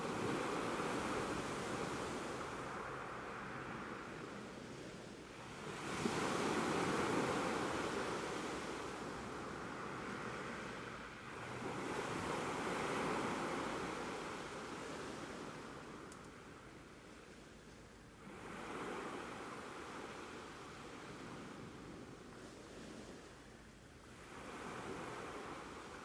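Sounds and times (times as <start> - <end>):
ocean waves washing in: 0.0 - 16.1, 18.2 - 26.0.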